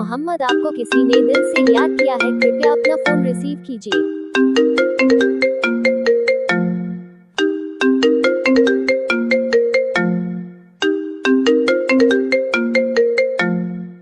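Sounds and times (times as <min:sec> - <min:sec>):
phone ringtone plucked melody: 0:00.0 - 0:14.0.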